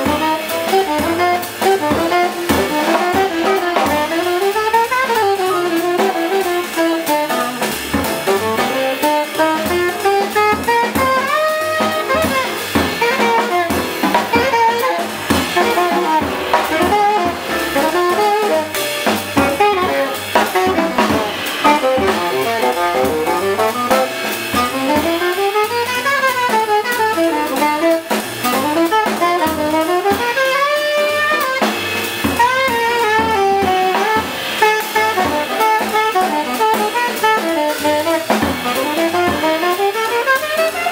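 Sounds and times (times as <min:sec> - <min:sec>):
double bass: 0:00.0 - 0:40.9
drum kit with cymbals: 0:00.0 - 0:40.9
piano: 0:00.0 - 0:40.9
tenor saxophone solo: 0:00.0 - 0:40.9.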